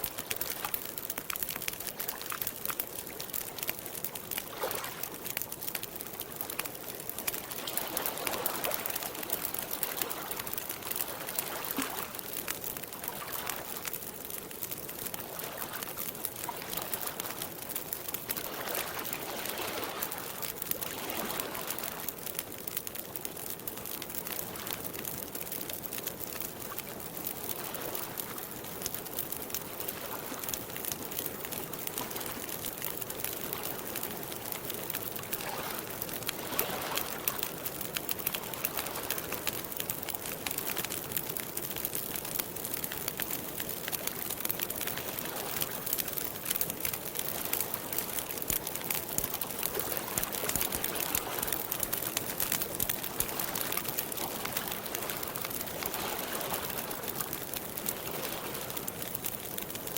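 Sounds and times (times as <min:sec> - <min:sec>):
soft washes of sound: 0:00.0 - 0:22.8, 0:26.2 - 0:41.0, 0:42.2 - 0:59.7
campfire crackling and popping: 0:00.0 - 0:59.9.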